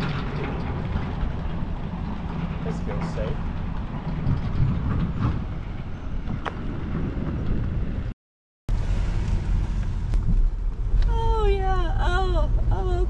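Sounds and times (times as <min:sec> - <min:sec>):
wind buffeting microphone: 0:00.0 - 0:08.1, 0:08.7 - 0:13.0.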